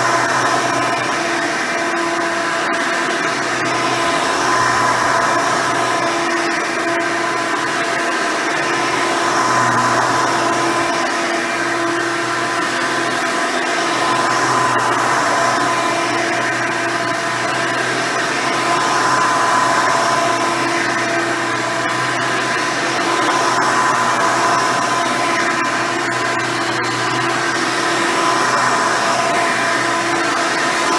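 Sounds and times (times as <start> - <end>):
upright vacuum cleaner running: 0.0 - 30.9.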